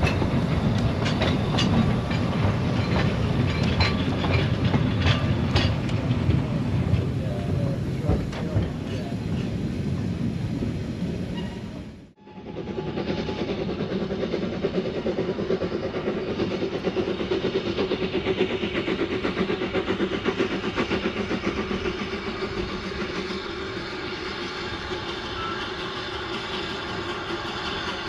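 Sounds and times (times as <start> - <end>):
train wheels rattling past: 0.0 - 28.0.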